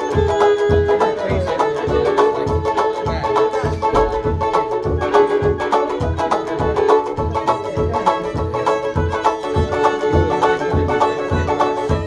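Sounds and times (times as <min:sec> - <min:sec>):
bowed fiddle: 0:00.0 - 0:12.0
plucked banjo: 0:00.0 - 0:12.0
steady low beat: 0:00.0 - 0:12.0.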